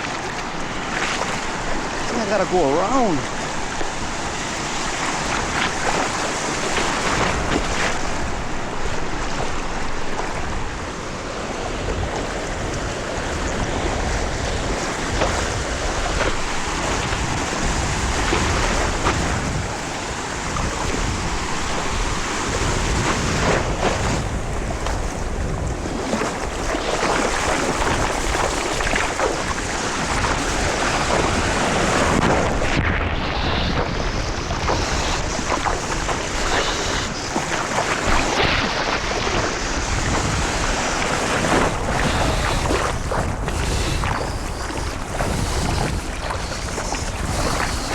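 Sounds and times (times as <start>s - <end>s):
ocean surf washing: 0.0s - 47.9s
wind buffeting microphone: 0.0s - 47.9s.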